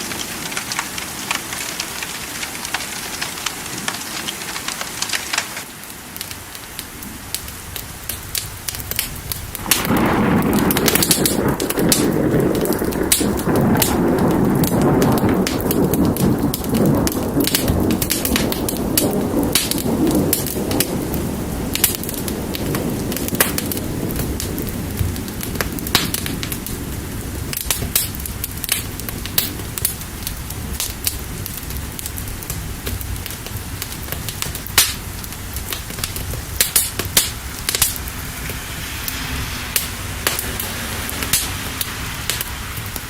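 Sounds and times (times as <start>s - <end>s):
steady rain: 0.0s - 43.0s
thunder rumbling: 0.0s - 43.0s
wood fire crackling: 0.0s - 43.0s.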